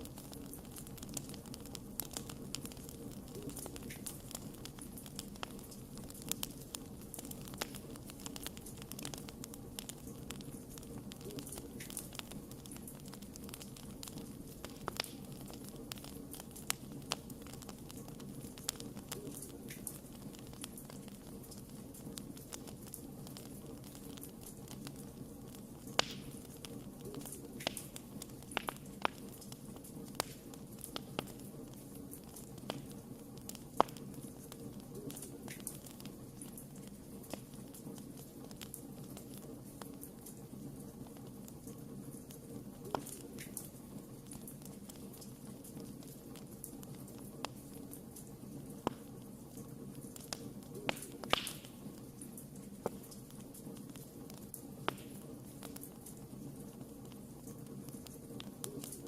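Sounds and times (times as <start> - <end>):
campfire crackling and popping: 0.0 - 59.0
low hiss of burning: 0.0 - 59.0.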